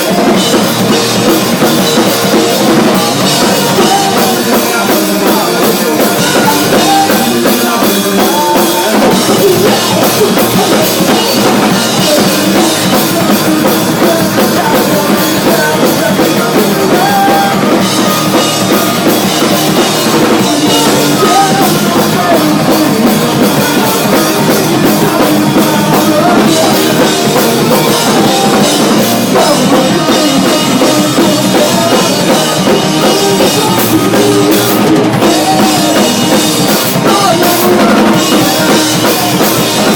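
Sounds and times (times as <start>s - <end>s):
punk rock band playing live: 0.0s - 39.9s.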